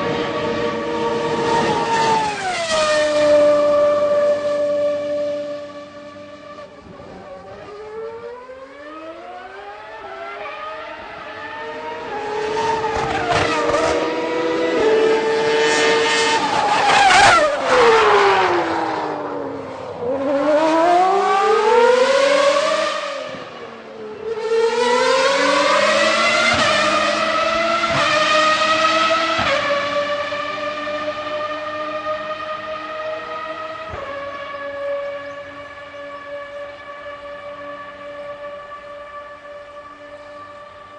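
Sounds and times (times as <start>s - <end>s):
racing engine accelerating: 0.0s - 40.9s.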